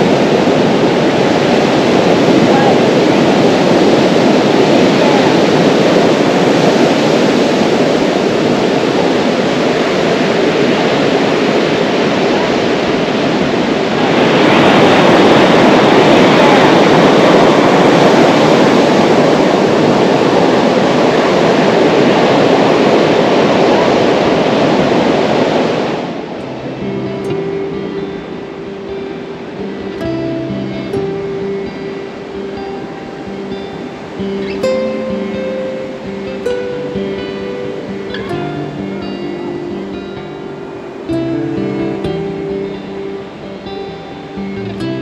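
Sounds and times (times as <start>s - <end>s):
surf on a beach: 0.0s - 45.0s
wind: 0.0s - 45.0s.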